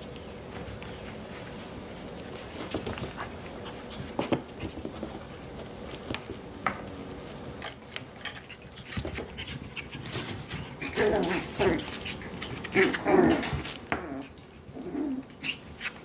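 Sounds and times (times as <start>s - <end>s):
paws and toys scuffling on a pad: 0.0s - 16.0s.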